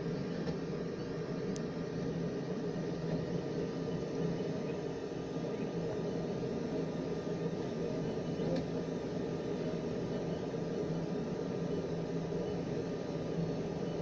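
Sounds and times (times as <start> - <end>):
printer mechanical hum: 0.0 - 14.0.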